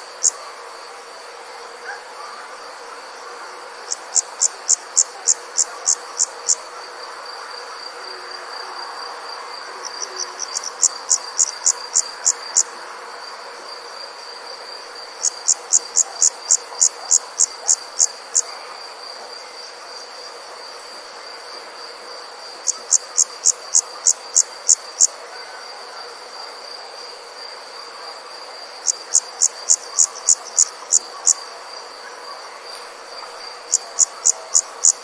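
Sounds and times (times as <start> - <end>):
insect trill: 0.0 - 35.0.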